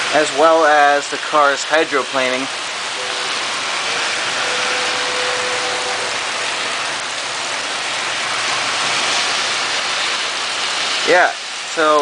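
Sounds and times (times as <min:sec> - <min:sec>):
heavy rain and hail: 0:00.0 - 0:12.0.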